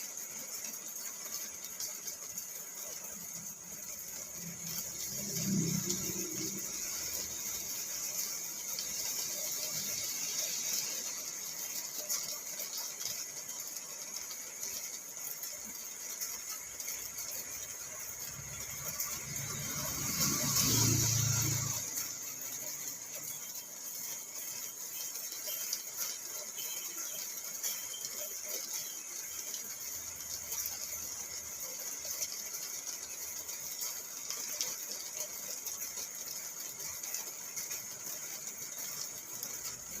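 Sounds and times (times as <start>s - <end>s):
rain on a car roof: 0.0s - 40.0s.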